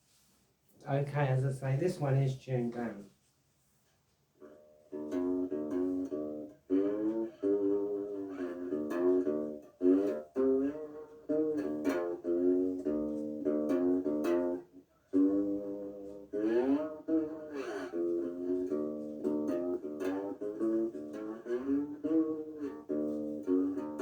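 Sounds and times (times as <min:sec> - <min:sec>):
plucked string instrument with slides: 0:04.4 - 0:24.0.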